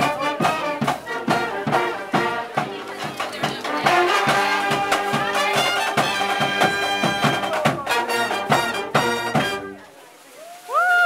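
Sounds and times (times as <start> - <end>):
brass holding long notes: 0.0 - 2.7, 3.6 - 9.9
steady drumbeat: 0.0 - 9.8.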